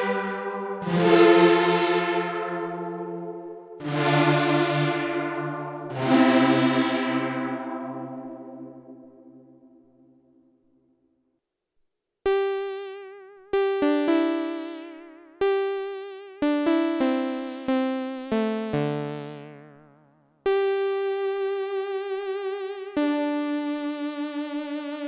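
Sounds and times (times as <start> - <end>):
synthesizer plucked notes: 0.0 - 10.0, 12.3 - 25.0.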